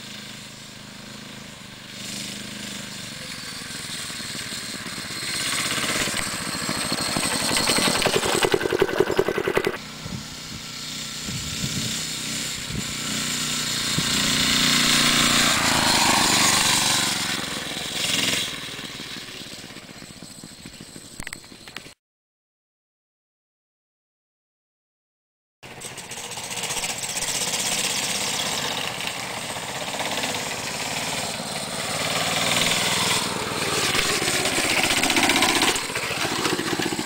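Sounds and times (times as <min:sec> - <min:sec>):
mini bike engine revving: 0:00.0 - 0:21.3, 0:25.6 - 0:37.0.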